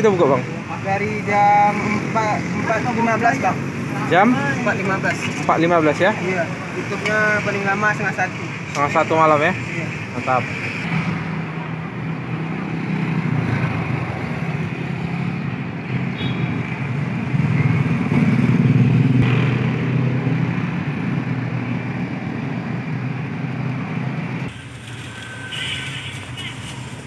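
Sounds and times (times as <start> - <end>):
motorbikes passing on street: 0.0 - 27.0.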